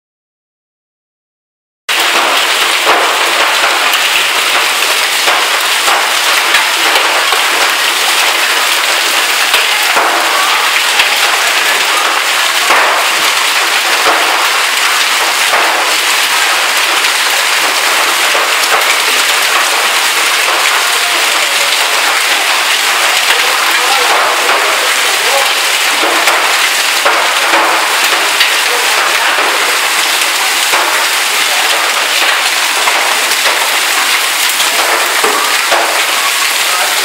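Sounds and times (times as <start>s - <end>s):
hailstones clicking: 1.9s - 37.0s
heavy rain hissing: 1.9s - 37.0s.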